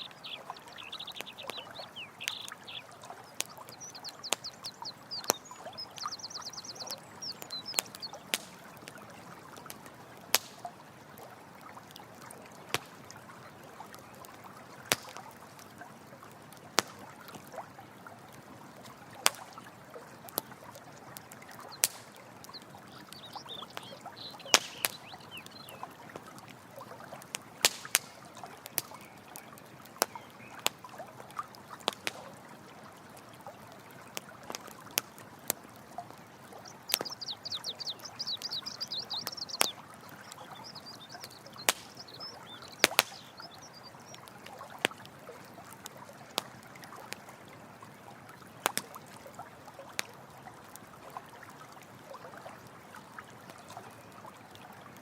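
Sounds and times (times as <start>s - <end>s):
campfire crackling and popping: 0.0s - 47.4s, 48.3s - 49.2s, 49.8s - 51.1s
stream water running: 0.0s - 55.0s.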